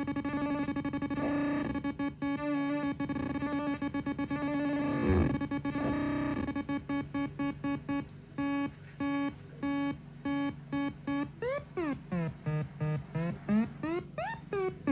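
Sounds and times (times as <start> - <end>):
buzzy synth beeps: 0.0 - 7.8, 8.4 - 14.9.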